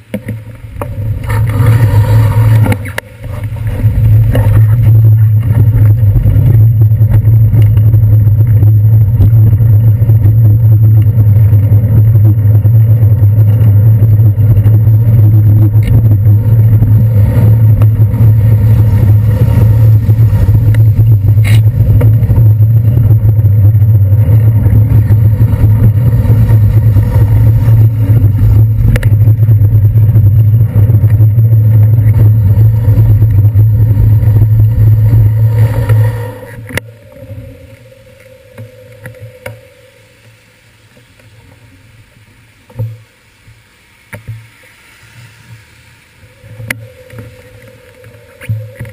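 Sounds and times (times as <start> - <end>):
bicycle riding over wet streets: 0.0 - 40.0.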